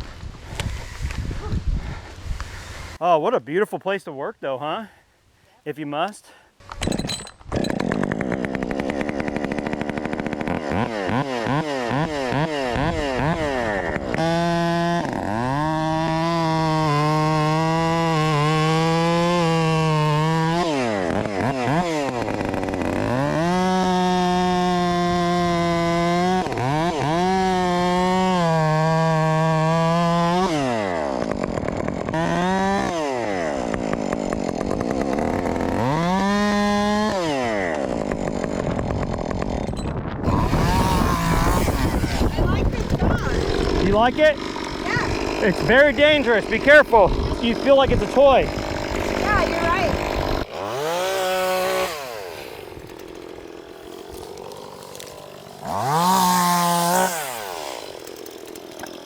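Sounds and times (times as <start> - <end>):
chainsaw revving and cutting wood: 6.0 - 59.0.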